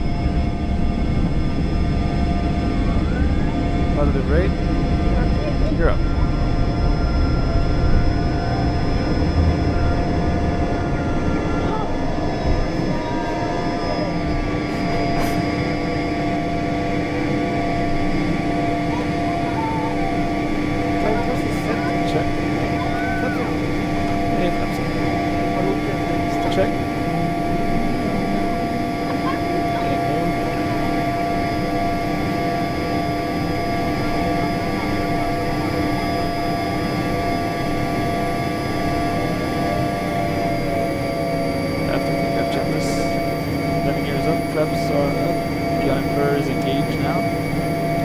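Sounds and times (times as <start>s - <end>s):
jet engine rush in cabin: 0.0s - 48.0s.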